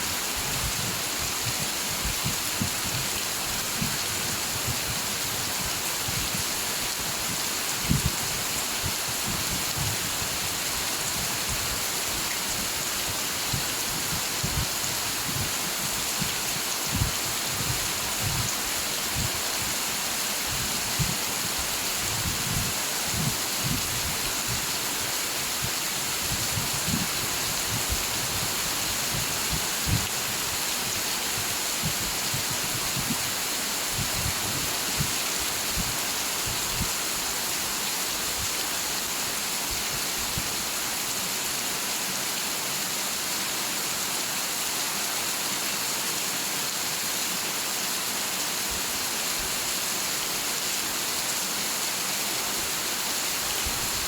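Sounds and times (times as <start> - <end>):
rain hiss: 0.0 - 54.0.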